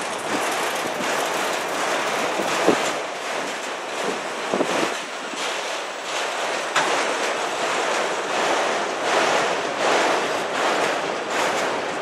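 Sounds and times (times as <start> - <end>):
steel wheels rolling on rail: 0.0 - 12.0.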